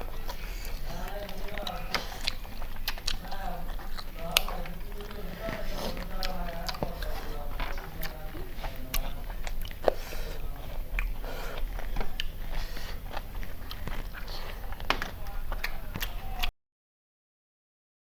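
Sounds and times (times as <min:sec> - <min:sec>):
people chewing food: 0:00.0 - 0:16.5.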